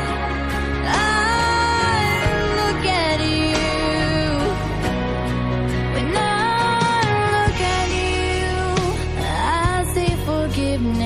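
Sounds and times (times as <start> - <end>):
song with long held notes: 0.0 - 11.0.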